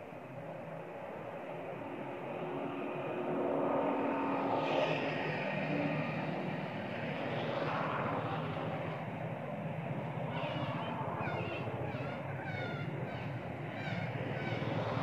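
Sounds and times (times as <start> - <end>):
engine drone with low hum: 0.0 - 15.0.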